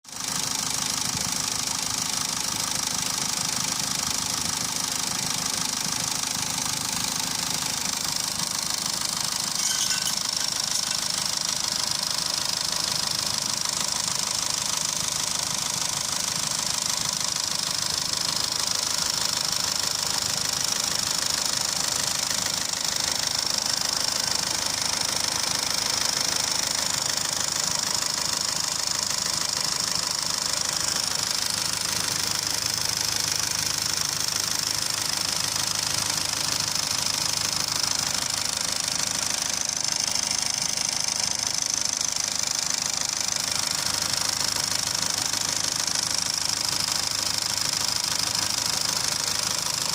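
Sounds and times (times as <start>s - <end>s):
diesel engine idling: 0.1s - 49.9s.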